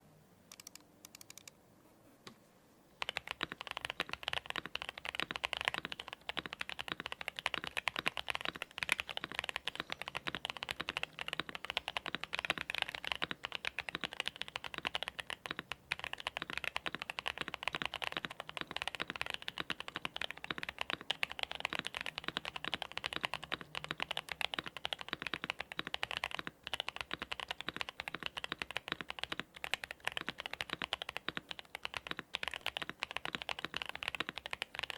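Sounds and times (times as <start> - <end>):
typing on mechanical keyboard: 3.0 - 34.9.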